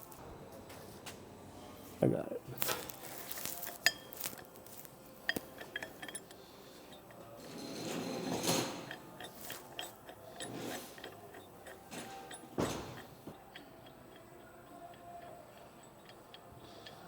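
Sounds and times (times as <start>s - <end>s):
metal bolts and washers clinking: 2.6s - 17.0s
metal scraping: 2.6s - 17.0s.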